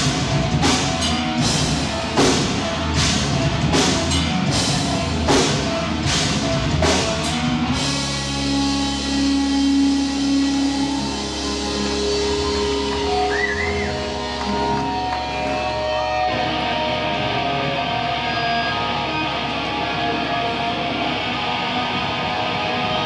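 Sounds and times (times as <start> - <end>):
electric guitar ringing notes: 0.0 - 23.0.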